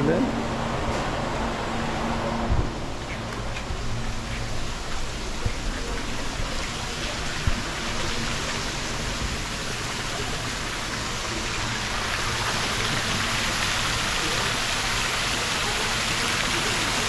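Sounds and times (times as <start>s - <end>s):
water pouring into pool: 2.9s - 17.0s.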